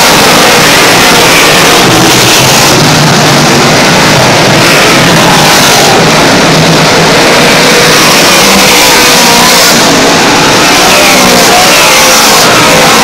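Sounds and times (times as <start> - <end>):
race car engines at full throttle: 0.0 - 13.0.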